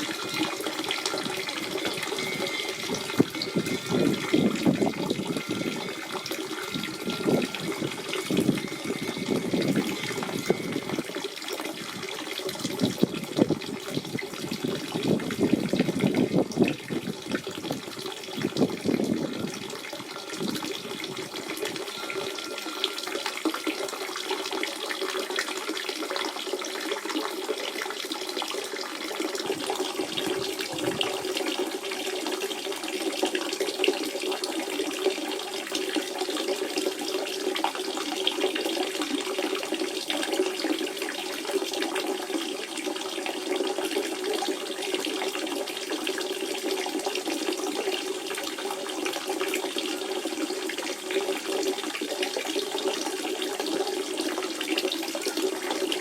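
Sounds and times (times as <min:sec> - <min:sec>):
spring water flowing: 0:00.0 - 0:56.0
water gurgling: 0:00.0 - 0:56.0.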